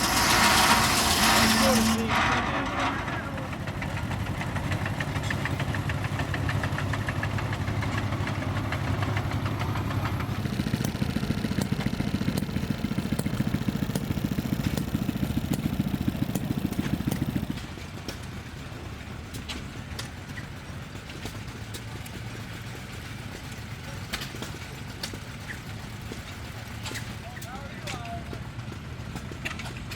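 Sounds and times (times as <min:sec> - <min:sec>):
engine humming: 0:00.0 - 0:27.2
rough pulsing engine: 0:00.0 - 0:28.6.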